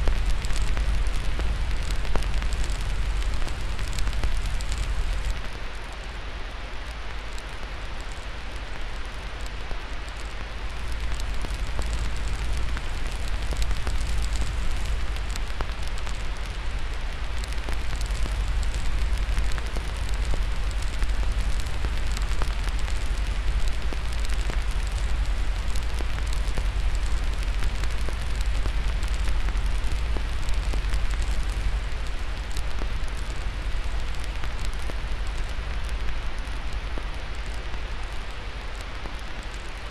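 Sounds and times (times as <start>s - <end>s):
wood fire crackling: 0.0s - 6.1s, 6.8s - 39.9s.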